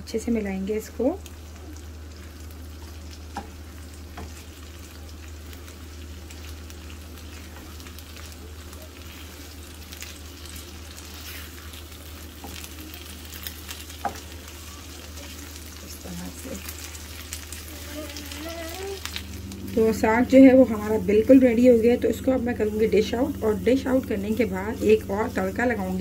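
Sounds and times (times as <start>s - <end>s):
greens sizzling in ghee: 0.0s - 26.0s.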